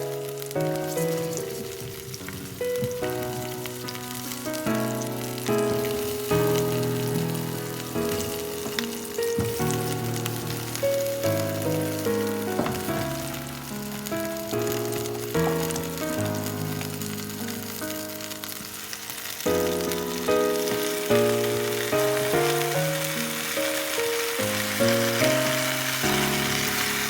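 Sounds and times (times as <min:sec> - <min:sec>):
background music of held notes: 0:00.0 - 0:27.0
food frying and sizzling: 0:00.0 - 0:27.0.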